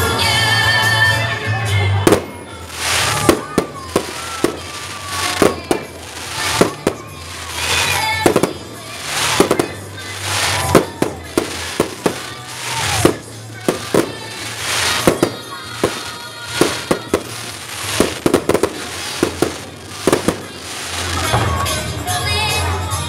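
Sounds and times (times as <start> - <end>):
fireworks bangs: 2.0 - 21.7
hiss and crackle of sparks: 2.1 - 21.4.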